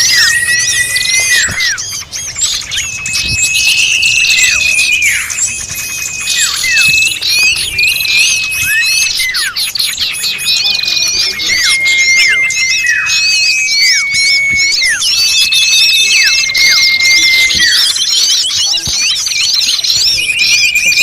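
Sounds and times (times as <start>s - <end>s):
long whistles dropping in pitch: 0.0s - 21.0s
songbirds calling: 0.0s - 21.0s.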